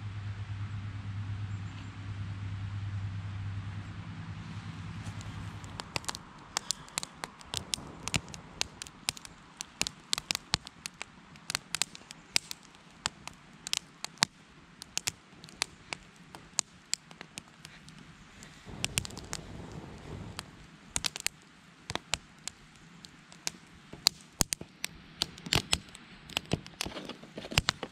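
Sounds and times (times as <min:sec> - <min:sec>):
wood fire crackling and popping: 0:04.8 - 0:27.9.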